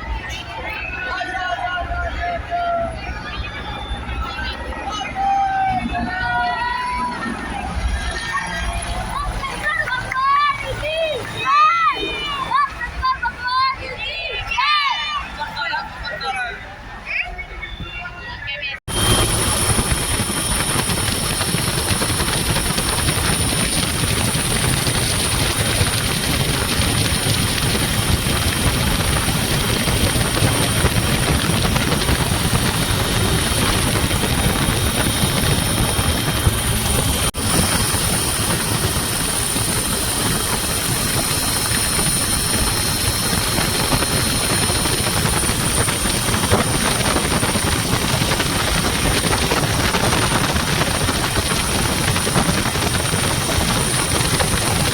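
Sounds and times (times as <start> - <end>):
helicopter flying overhead: 0.0 - 13.9, 18.9 - 54.9.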